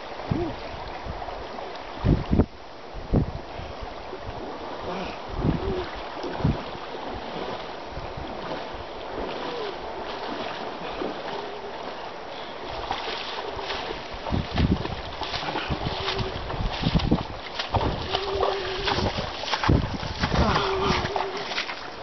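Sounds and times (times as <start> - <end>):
wind buffeting microphone: 0.0 - 11.8, 12.7 - 21.7
splashes of wading: 4.2 - 22.0
water lapping at stony shore: 4.3 - 22.0.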